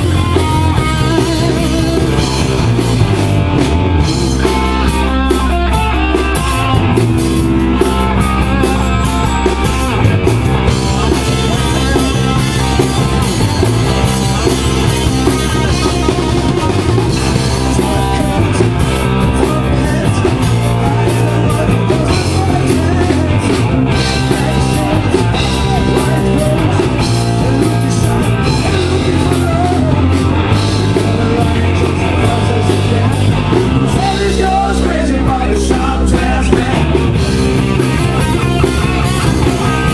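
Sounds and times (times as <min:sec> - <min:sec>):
person singing: 0:00.0 - 0:02.6, 0:07.8 - 0:39.9
drum kit beat: 0:00.0 - 0:39.9
rock band playing loudly: 0:00.0 - 0:39.9.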